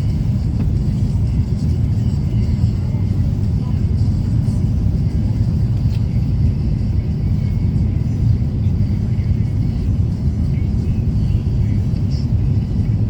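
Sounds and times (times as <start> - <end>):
vehicle interior rumble: 0.0 - 13.0.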